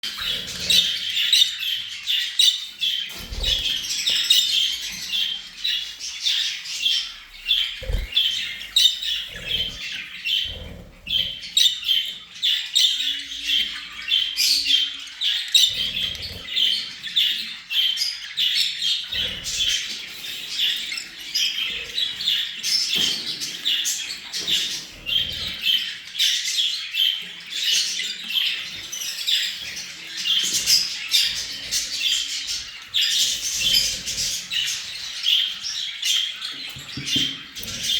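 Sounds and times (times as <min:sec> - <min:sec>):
parrots chattering and squawking: 0:00.0 - 0:37.9.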